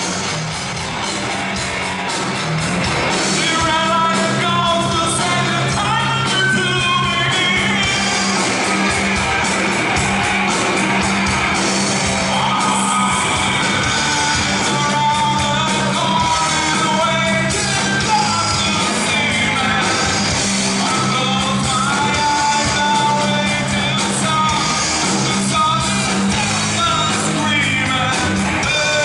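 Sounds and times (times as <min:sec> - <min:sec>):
live rock band with singer: 0:00.0 - 0:29.0.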